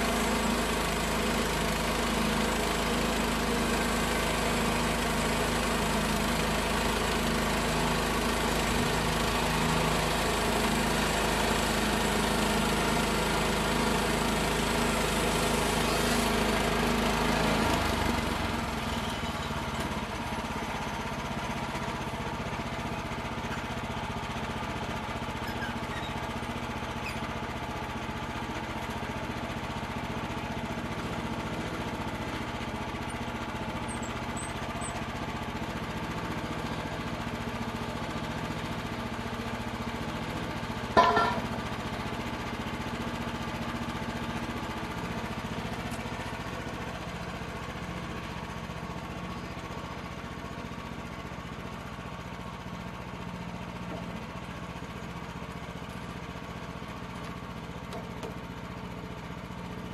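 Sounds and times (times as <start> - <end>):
small gasoline engine running: 0.0 - 59.9.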